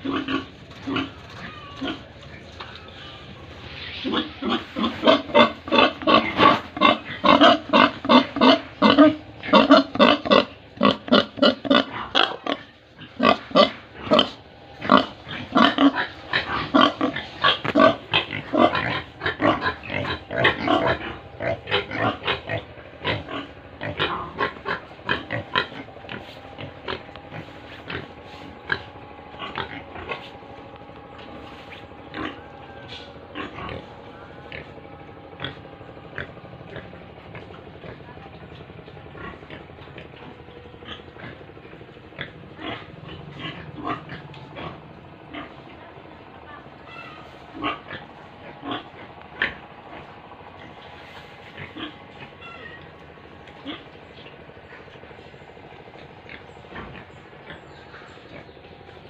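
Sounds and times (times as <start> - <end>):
pigs grunting: 0.0 - 59.0.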